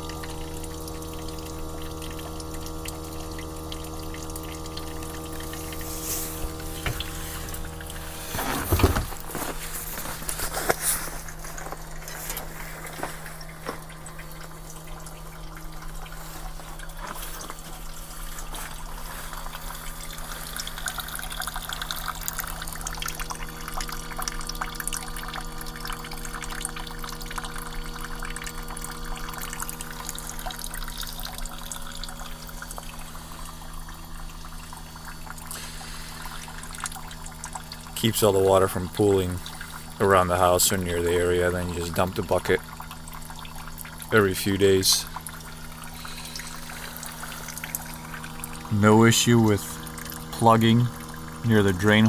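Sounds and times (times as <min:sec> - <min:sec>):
steady unit hum: 0:00.0 - 0:52.0
water trickling into bucket: 0:00.0 - 0:52.0.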